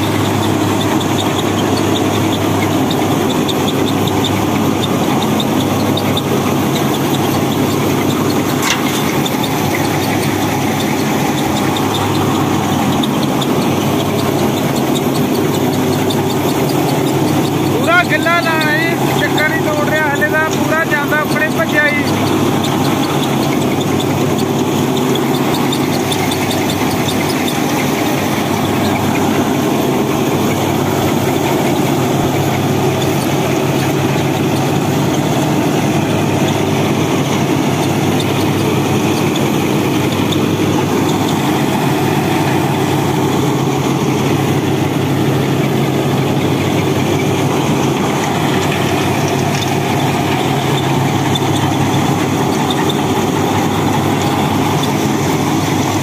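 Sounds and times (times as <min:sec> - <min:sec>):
reaper chopping and blowing straw: 0:00.0 - 0:56.0
tractor engine under load: 0:00.0 - 0:56.0.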